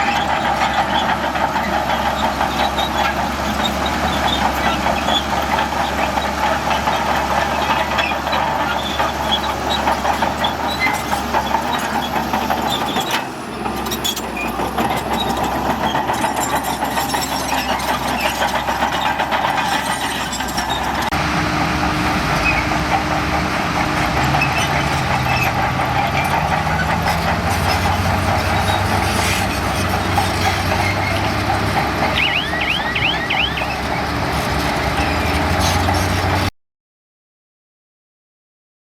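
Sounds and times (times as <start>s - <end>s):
diesel earthmoving machinery: 0.0s - 36.5s.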